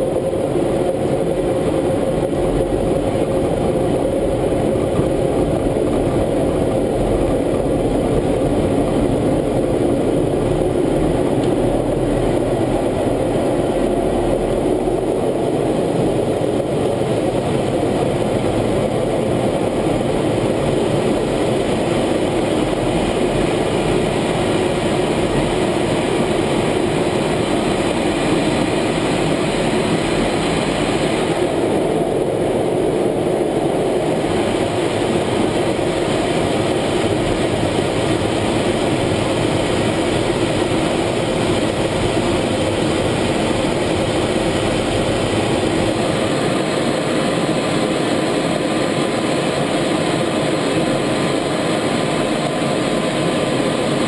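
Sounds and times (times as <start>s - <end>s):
jet engine roaring: 0.0s - 54.0s
rushing air: 0.0s - 54.0s.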